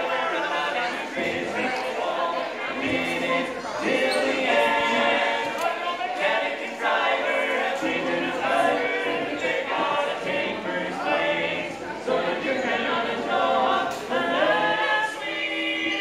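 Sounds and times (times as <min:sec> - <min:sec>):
male quartet singing in harmony: 0:00.0 - 0:16.0.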